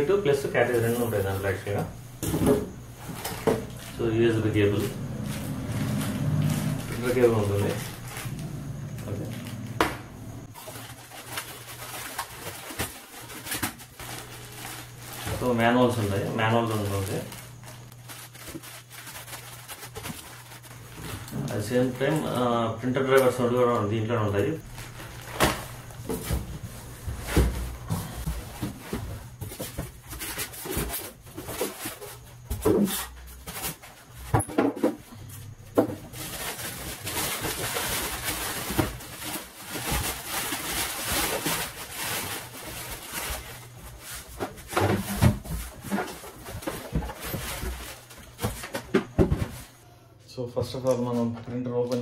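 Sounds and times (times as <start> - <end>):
plastic bag rustling: 0.0 - 34.3, 35.0 - 49.8
foam packing pieces knocking: 0.6 - 8.4, 9.3 - 22.1, 24.6 - 35.0, 35.7 - 49.8.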